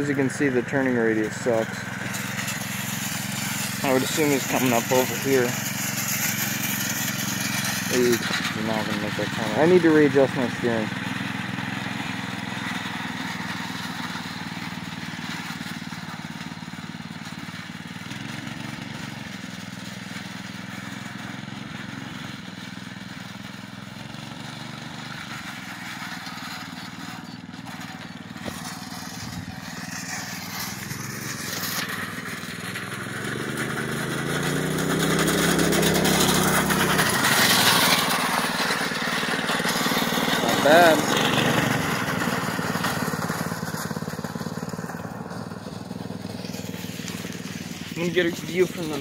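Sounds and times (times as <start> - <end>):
go-kart engine running: 0.0 - 49.0.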